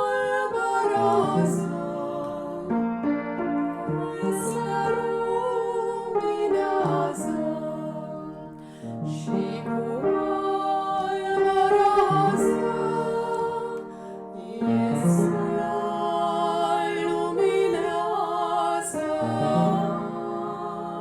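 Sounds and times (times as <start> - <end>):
person singing a carol: 0.0 - 21.0.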